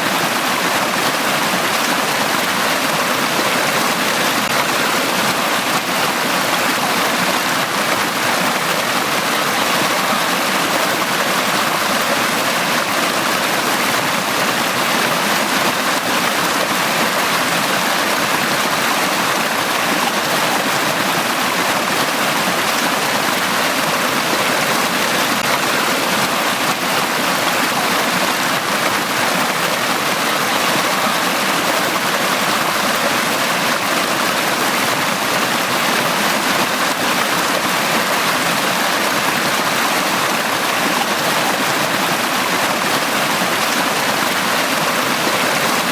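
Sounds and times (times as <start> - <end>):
stream running over stones: 0.0 - 45.9.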